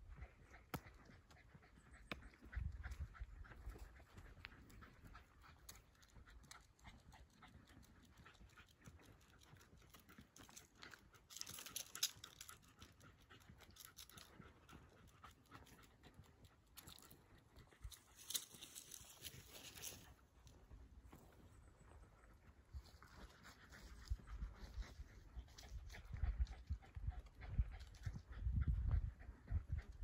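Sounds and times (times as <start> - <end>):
dog panting faintly: 0.0 - 30.0.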